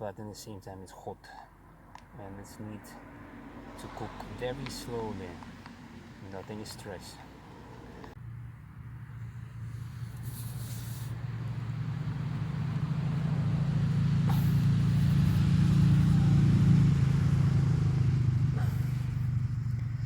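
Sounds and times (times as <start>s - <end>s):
vehicle driving past: 2.7s - 20.0s.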